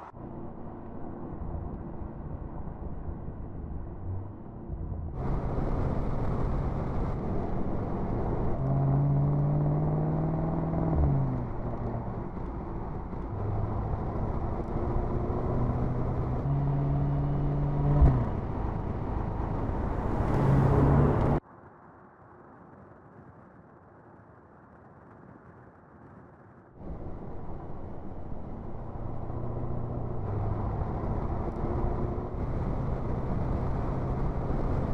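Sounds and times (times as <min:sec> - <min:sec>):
car engine accelerating: 0:00.0 - 0:21.4, 0:26.8 - 0:34.9.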